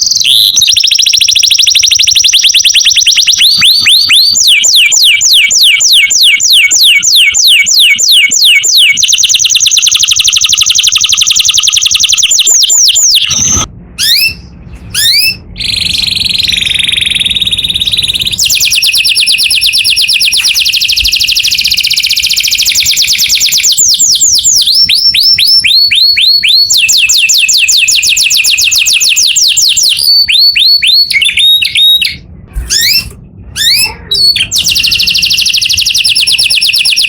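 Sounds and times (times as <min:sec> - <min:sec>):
canary singing trills: 0:00.0 - 0:37.0.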